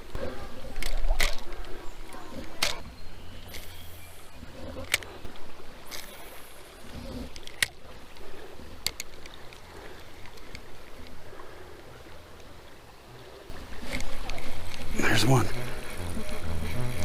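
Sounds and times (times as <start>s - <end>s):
water sloshing from wading: 0.0s - 17.0s.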